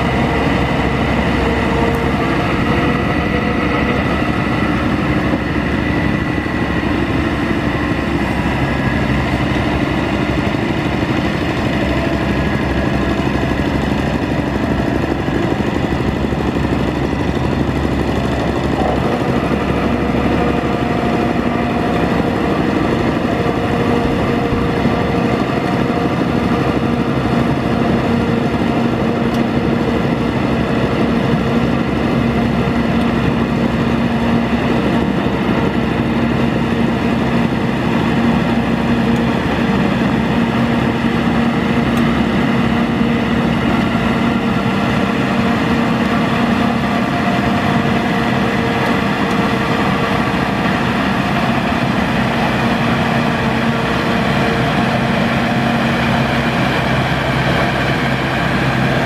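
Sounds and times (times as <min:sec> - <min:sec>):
rotary tiller engine running: 0:00.0 - 0:59.0.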